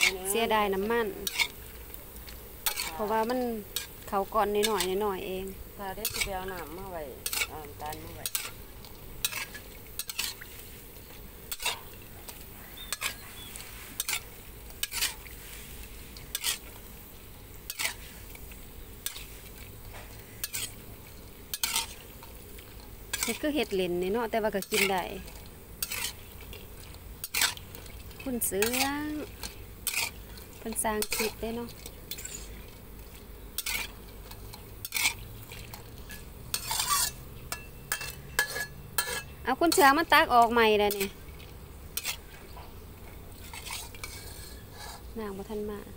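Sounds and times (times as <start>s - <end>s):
metal spatula scraping a wok: 0.0s - 17.0s, 17.6s - 32.9s, 33.6s - 41.2s, 41.9s - 42.4s, 43.4s - 45.6s
rice sizzling in oil: 0.0s - 45.9s.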